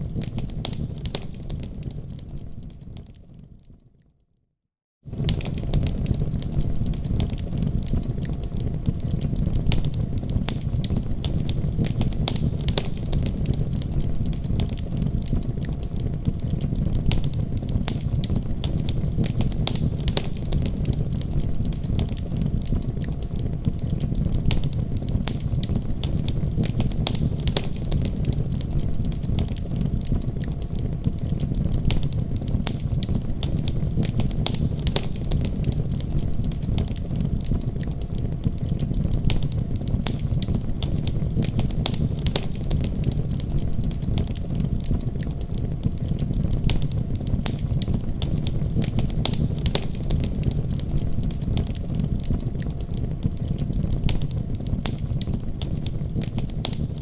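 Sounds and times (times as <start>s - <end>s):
fire flames rumbling: 0.0s - 3.8s, 5.0s - 57.0s
fire crackles and pops: 0.0s - 4.2s, 5.0s - 57.0s.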